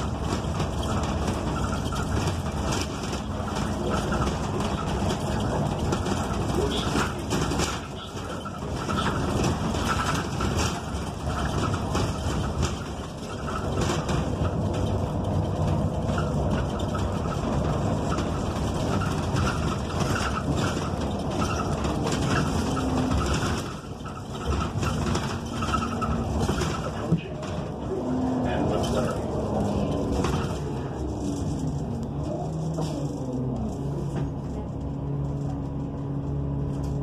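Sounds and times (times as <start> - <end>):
bus engine running: 0.0 - 37.0
rattles and squeaks: 0.0 - 37.0
road rumble: 0.0 - 37.0.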